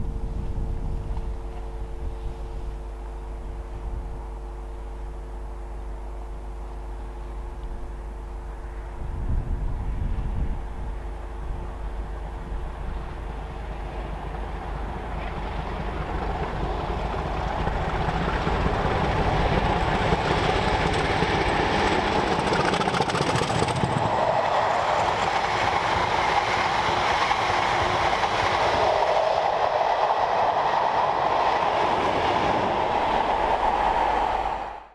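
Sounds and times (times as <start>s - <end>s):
diesel locomotives passing: 0.0s - 34.9s
wheels on rail: 6.7s - 34.9s.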